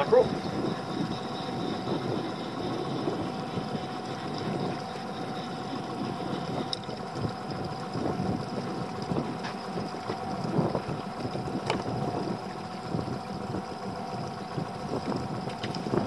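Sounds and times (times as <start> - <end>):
boat engine idling: 0.0 - 16.0
water lapping against hull: 0.0 - 16.0
wind on microphone: 0.0 - 16.0.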